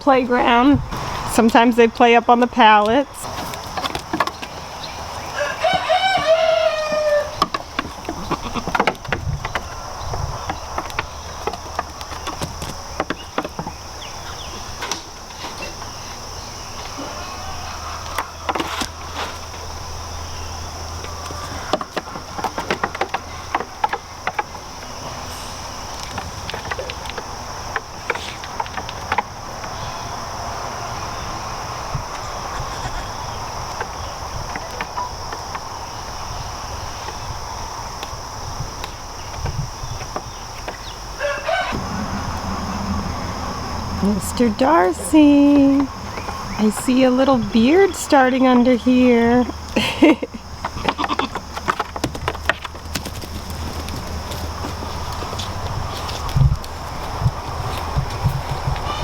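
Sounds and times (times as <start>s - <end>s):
high insect chorus: 0.0s - 59.0s.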